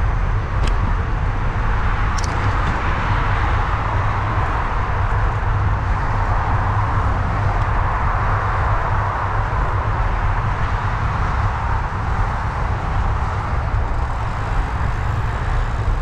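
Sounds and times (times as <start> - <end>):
highway traffic hiss: 0.0 - 16.0
wind rumble on microphone: 0.0 - 16.0.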